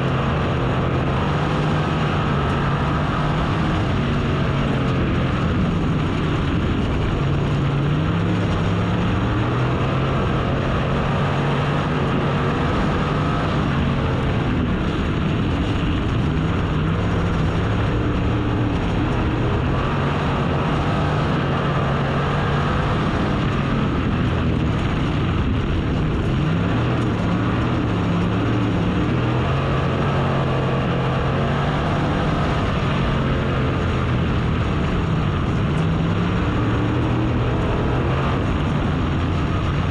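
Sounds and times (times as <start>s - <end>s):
loud rushing noise: 0.0s - 39.9s
race car engine revving: 0.0s - 39.9s.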